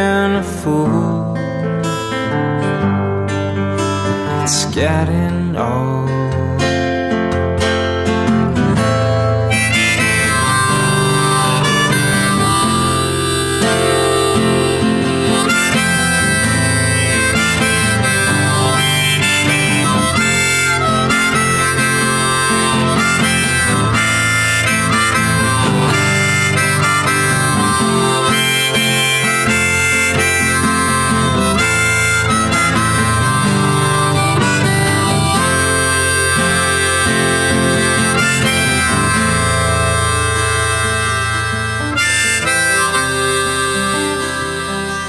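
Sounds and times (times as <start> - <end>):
guitar accompaniment: 0.0 - 45.0
harmonica solo: 7.6 - 45.0.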